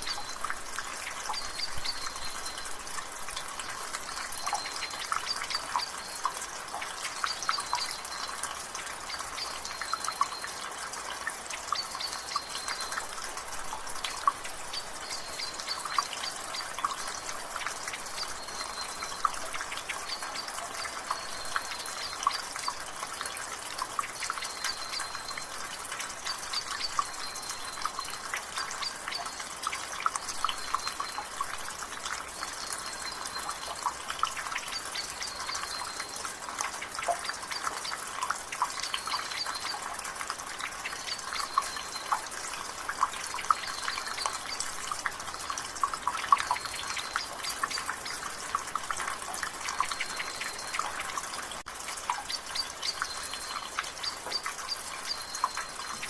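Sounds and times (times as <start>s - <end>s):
rainwater dripping from gutter: 0.0s - 56.0s.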